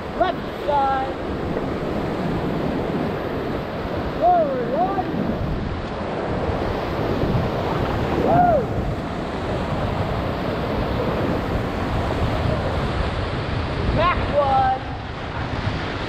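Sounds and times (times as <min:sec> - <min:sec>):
whitewater rapids rushing: 0:00.0 - 0:05.8, 0:06.4 - 0:16.0
wind buffeting microphone: 0:00.0 - 0:16.0.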